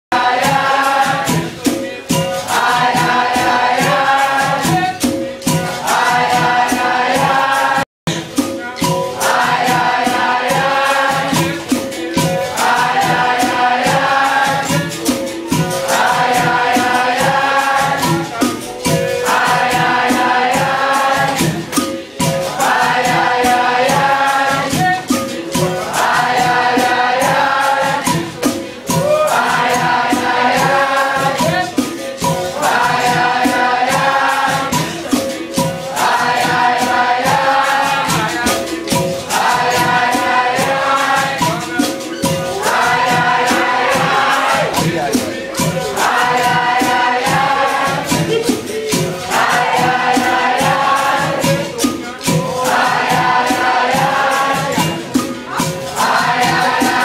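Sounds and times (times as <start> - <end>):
group singing call-and-response: 0.1 - 57.0
hand drum rhythm: 0.1 - 57.0
tambourines: 0.2 - 57.0.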